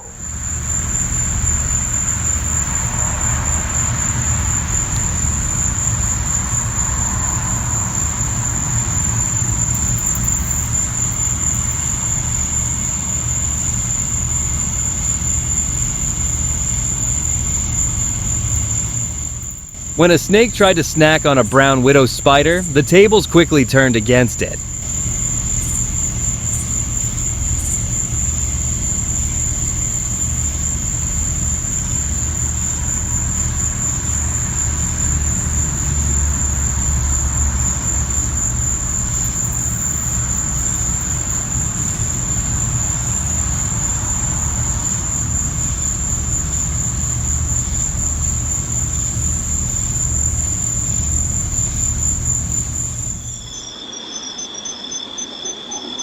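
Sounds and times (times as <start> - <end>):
high-pitched insect trill: 0.0 - 20.0, 24.4 - 56.0.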